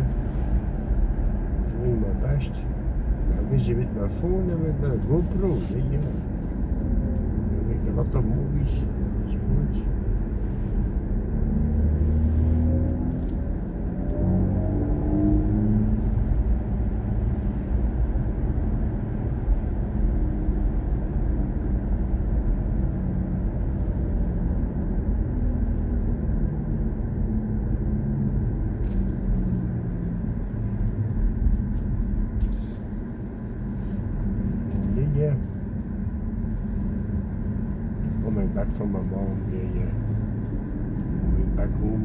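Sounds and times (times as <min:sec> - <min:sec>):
road and tyre rumble inside car: 0:00.0 - 0:42.0.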